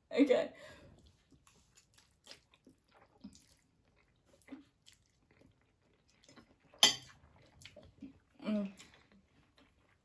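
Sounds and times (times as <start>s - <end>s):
faint chewing: 0.9s - 10.0s.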